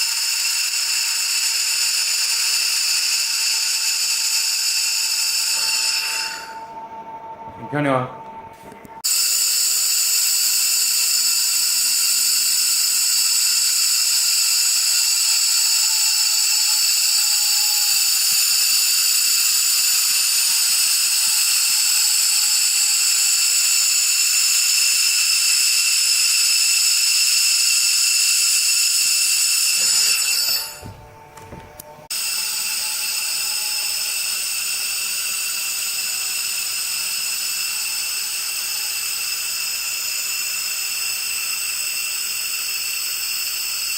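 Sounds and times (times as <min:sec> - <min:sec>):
laser welding machine hiss: 0:00.0 - 0:06.6, 0:09.0 - 0:31.0, 0:32.1 - 0:43.9
machine whine: 0:00.0 - 0:43.9.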